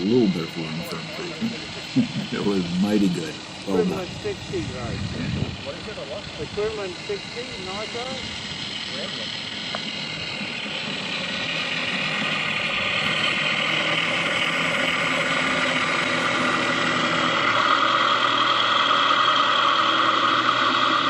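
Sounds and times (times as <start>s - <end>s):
model plane engine idling: 0.0s - 21.0s.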